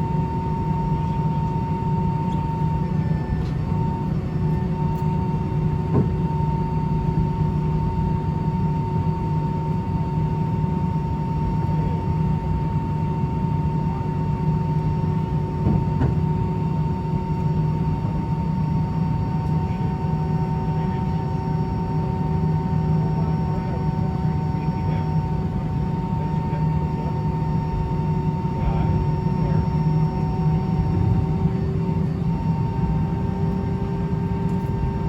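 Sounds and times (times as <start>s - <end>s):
airliner cabin drone: 0.0s - 35.0s
steady whine: 0.0s - 35.0s.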